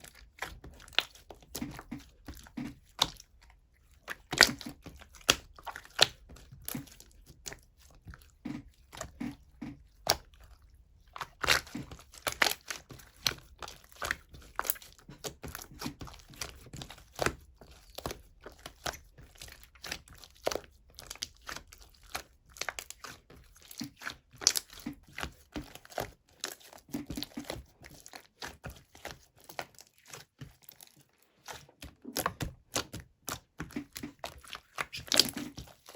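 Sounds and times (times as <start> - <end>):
slime squished by hand: 0.0 - 35.9.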